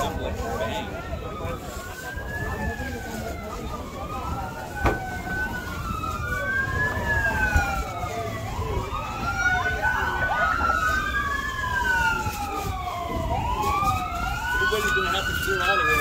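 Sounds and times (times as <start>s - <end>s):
emergency sirens wailing: 0.0s - 16.0s.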